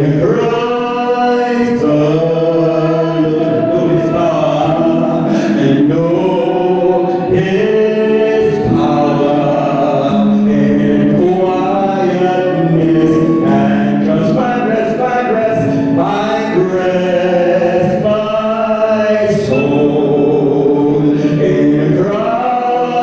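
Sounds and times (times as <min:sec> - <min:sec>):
choir singing chords: 0:00.0 - 0:23.0.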